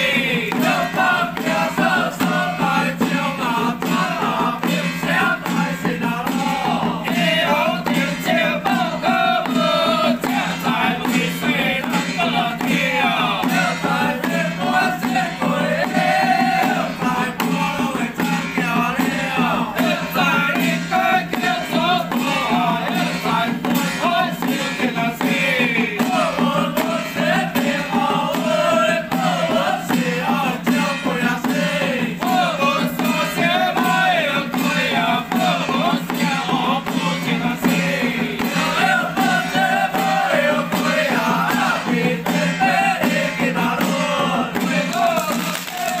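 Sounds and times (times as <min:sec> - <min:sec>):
men chanting in unison: 0:00.0 - 0:46.0.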